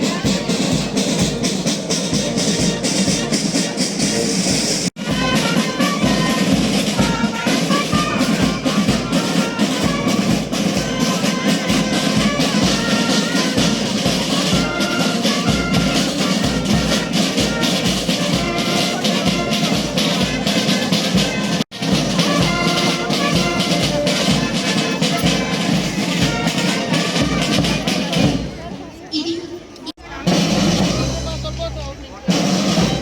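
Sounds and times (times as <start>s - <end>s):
steady drum beat: 0.0s - 29.0s, 29.9s - 33.0s
brass band playing: 0.0s - 33.0s.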